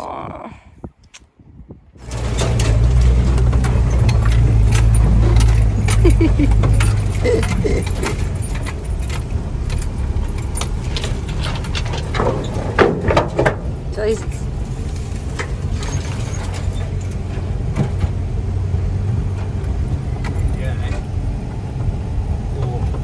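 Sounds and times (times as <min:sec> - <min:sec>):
engine droning low: 0:01.8 - 0:23.0
loose parts and keys rattling: 0:02.0 - 0:18.2, 0:19.3 - 0:21.5.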